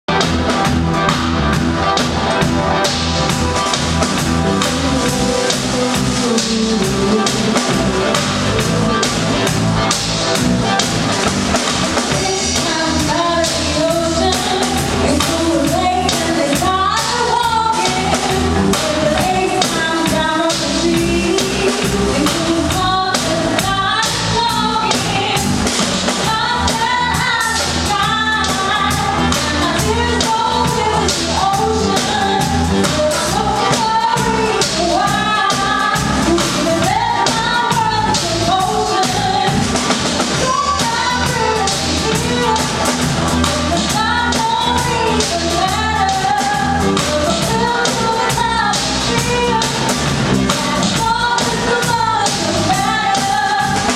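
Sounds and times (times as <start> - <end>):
drum kit beat: 0.0 - 53.9
person singing: 1.8 - 53.9.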